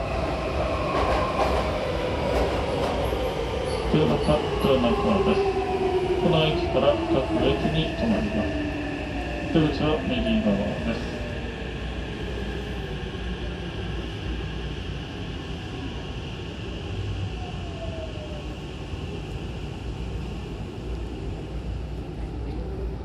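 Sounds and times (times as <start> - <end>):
train wheels rumbling on rails: 0.0 - 22.7.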